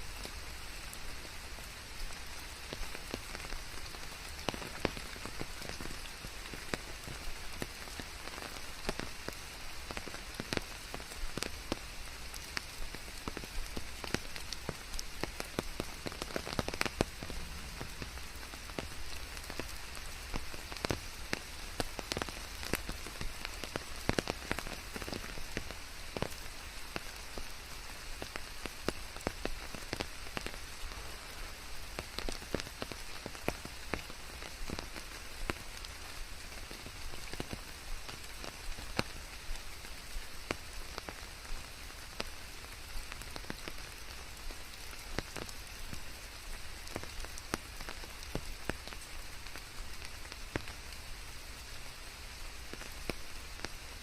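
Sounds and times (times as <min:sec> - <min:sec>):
rain on a hard surface: 0:00.0 - 0:54.0
raindrops ticking: 0:00.1 - 0:54.0.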